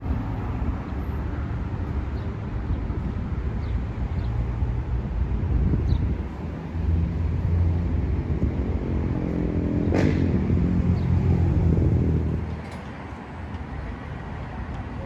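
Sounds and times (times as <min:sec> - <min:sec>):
tram running with low rumble: 0:00.0 - 0:15.0.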